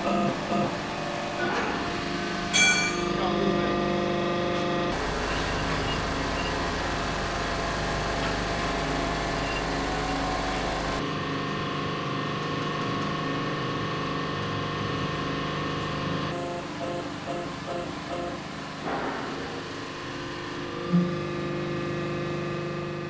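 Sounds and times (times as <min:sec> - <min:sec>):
hydraulic press humming: 0:00.0 - 0:23.0.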